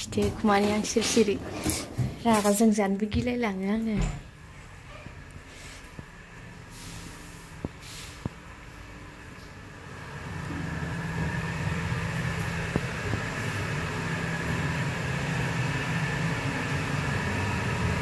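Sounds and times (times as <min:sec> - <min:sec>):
range hood exhaust fan whirring: 0:00.0 - 0:18.0.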